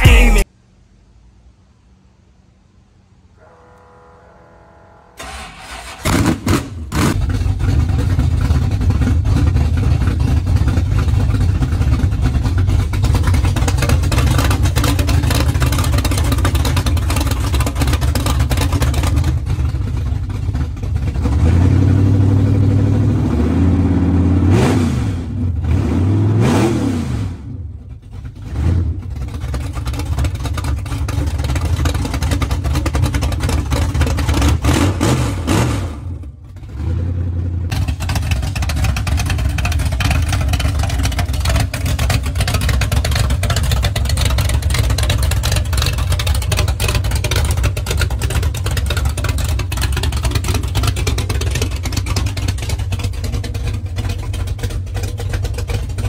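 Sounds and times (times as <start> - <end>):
pickup engine revving: 3.7 - 56.0.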